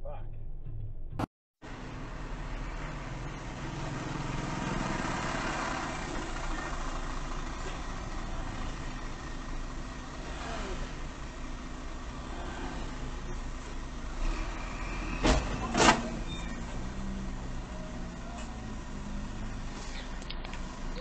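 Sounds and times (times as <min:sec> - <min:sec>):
car engine idling: 0:01.6 - 0:21.0
passing road traffic: 0:01.6 - 0:21.0.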